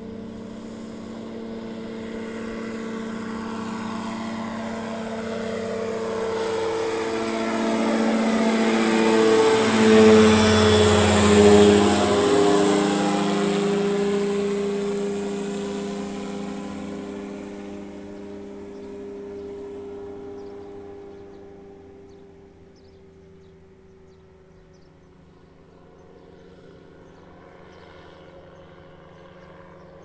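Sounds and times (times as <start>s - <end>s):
aircraft engine and propeller drone: 0.0s - 30.0s.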